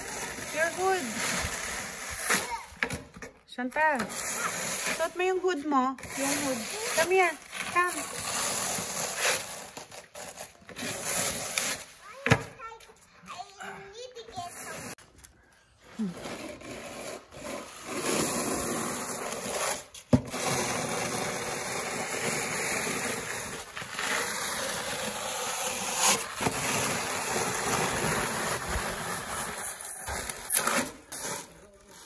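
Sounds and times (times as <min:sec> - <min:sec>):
snow shovels scraping concrete: 0:00.0 - 0:15.0, 0:15.9 - 0:32.0.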